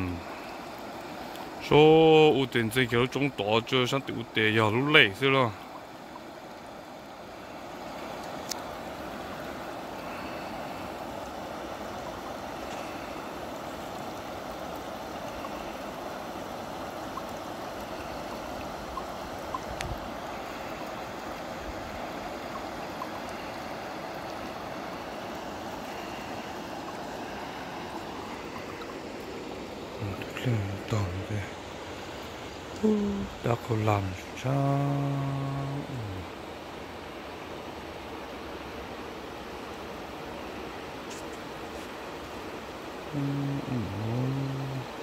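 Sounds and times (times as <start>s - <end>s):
water rushing over rocks: 0.0s - 45.0s.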